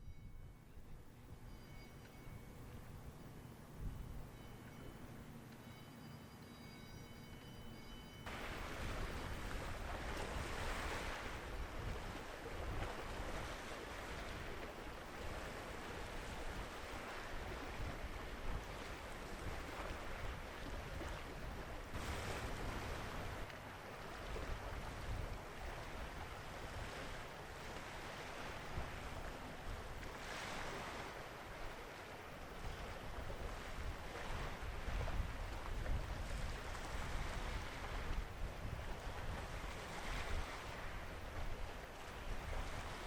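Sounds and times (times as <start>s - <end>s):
wind noise on microphone: 0.0s - 1.6s, 3.8s - 4.4s, 8.2s - 23.5s, 24.2s - 31.8s, 32.6s - 43.0s.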